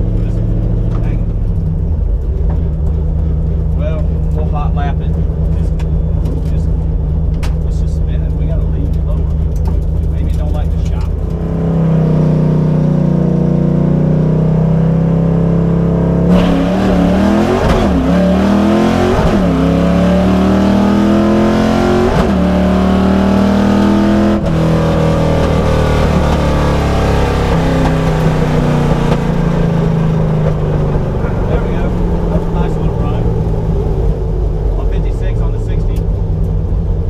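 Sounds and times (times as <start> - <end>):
car engine accelerating with upshifts: 0.0 - 37.0.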